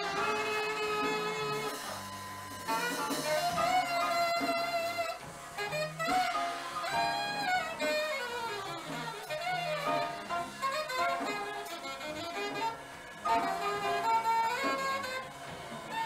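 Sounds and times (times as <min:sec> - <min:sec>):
live jazz band: 0:00.0 - 0:16.0
saxophone melody: 0:00.0 - 0:16.0.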